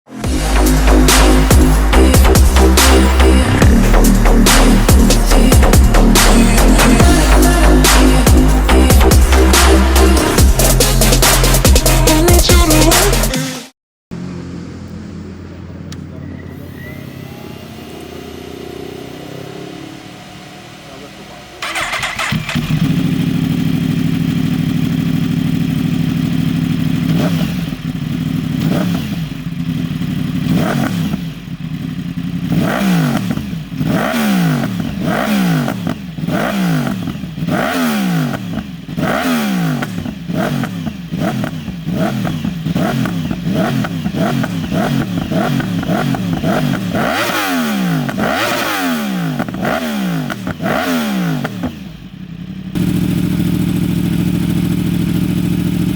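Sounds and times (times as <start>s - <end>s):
motorcycle engine revving: 0.1s - 13.3s, 14.1s - 55.9s
motorcycle engine idling: 0.3s - 12.3s, 14.1s - 55.9s.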